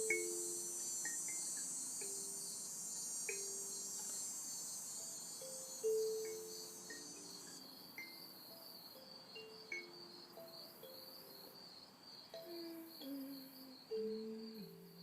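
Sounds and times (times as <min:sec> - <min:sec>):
slow soft melody: 0:00.0 - 0:04.2, 0:04.8 - 0:15.0
insects trilling: 0:00.0 - 0:15.0.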